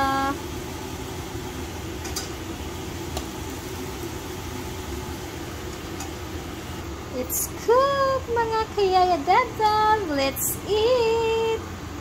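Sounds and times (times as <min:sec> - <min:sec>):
bananas sizzling in oil: 0:00.0 - 0:11.6.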